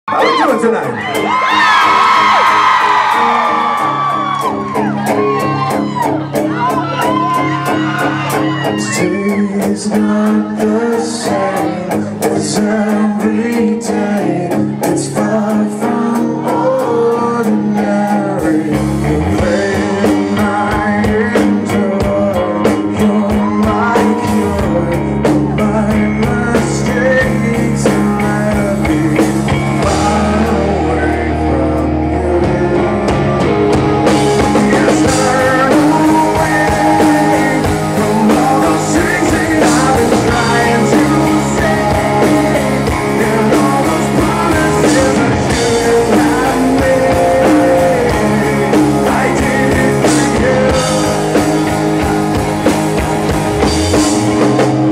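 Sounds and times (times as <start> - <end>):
live rock band playing: 0.1 - 54.9
man singing lead vocals: 0.1 - 54.9.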